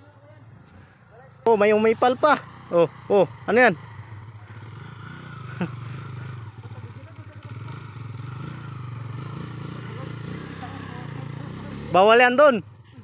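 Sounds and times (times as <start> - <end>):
dirt bike engine at low revs: 1.5 - 13.0.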